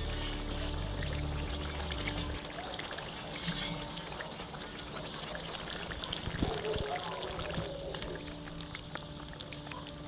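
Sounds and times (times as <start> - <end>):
sauce bubbling and sizzling: 0.0 - 10.0.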